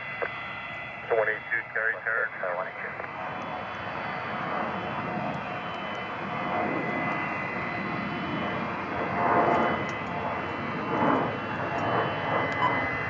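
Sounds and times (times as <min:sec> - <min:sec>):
airliner engines rushing: 0:00.0 - 0:13.0
thin steady engine whine: 0:00.0 - 0:13.0.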